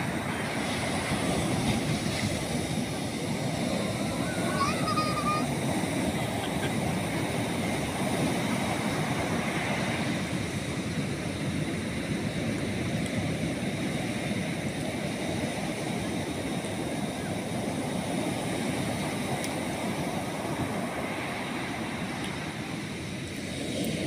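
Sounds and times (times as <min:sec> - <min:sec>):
waves breaking on sandy beach: 0:00.0 - 0:24.0.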